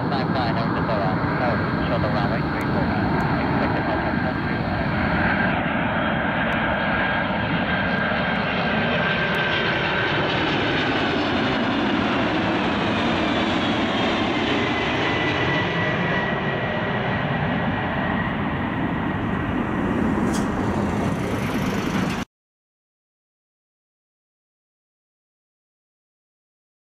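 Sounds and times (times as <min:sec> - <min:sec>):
jet airliner passing overhead: 0:00.0 - 0:22.3.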